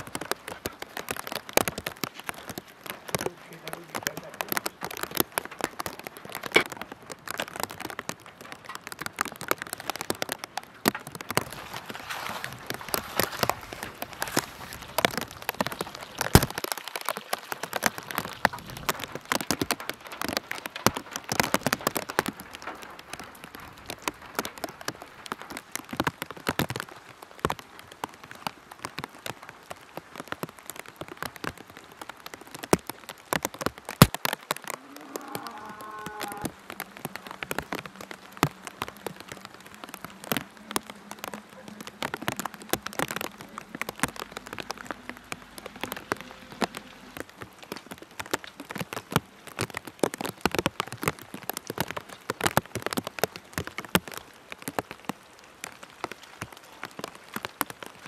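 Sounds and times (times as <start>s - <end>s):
rain tapping on hard surfaces: 0.0s - 58.0s.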